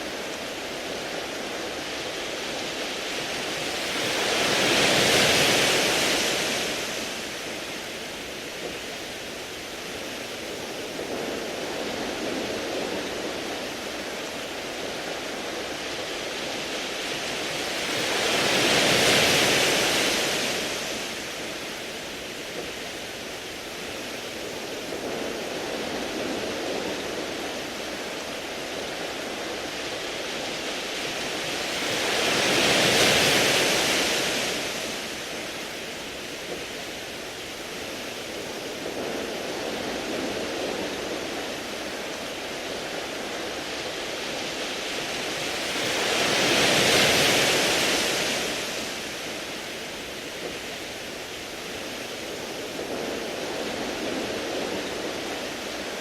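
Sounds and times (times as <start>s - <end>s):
waves washing over pebbles: 0.0s - 56.0s.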